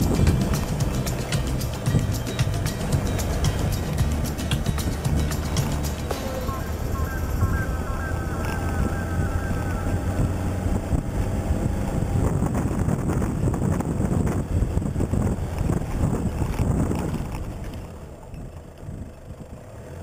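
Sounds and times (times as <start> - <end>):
wind buffeting microphone: 0.0 - 19.7
vehicle rumble on rough track: 0.0 - 20.0.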